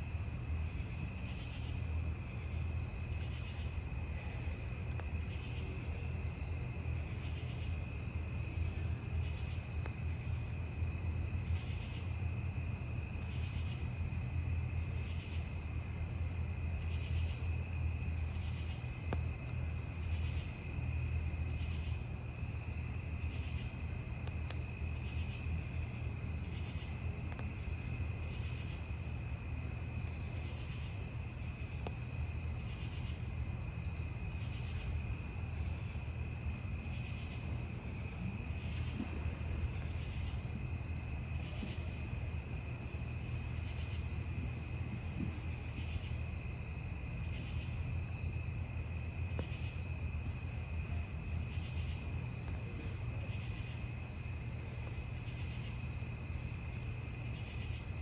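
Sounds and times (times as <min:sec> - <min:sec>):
wood fire burning: 0:00.0 - 0:57.9
crickets trilling: 0:00.0 - 0:58.0
high insect chirp: 0:00.0 - 0:58.0.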